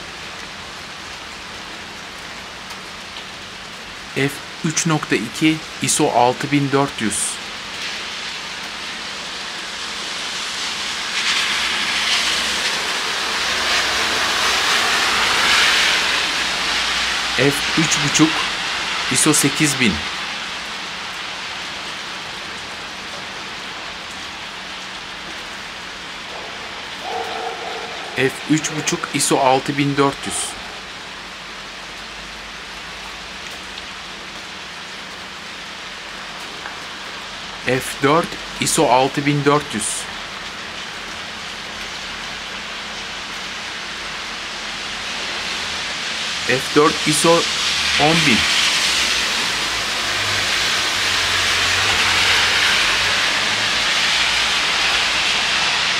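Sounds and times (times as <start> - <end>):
rain falling: 0.0 - 55.9
tyres hissing on wet street: 0.0 - 55.9.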